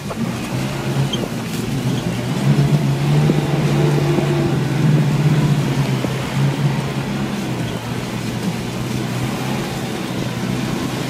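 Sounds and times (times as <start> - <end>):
atv engine driving: 0.0 - 11.0
wind noise: 0.0 - 11.0.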